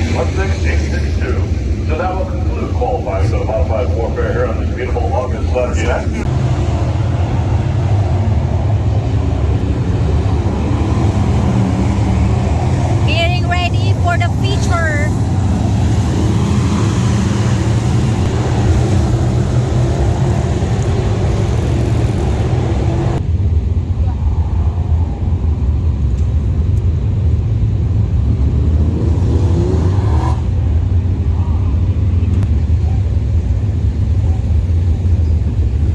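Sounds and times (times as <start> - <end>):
motor vehicle engine droning: 0.0 - 35.9
steady low rumble: 0.0 - 35.9.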